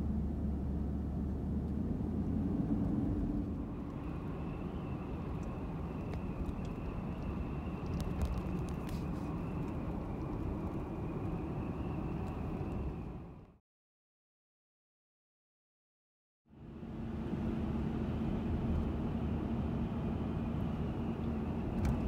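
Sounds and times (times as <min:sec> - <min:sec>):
road rumble: 0:00.0 - 0:13.6, 0:16.5 - 0:22.0
vehicle engine hum: 0:00.0 - 0:13.6, 0:16.5 - 0:22.0.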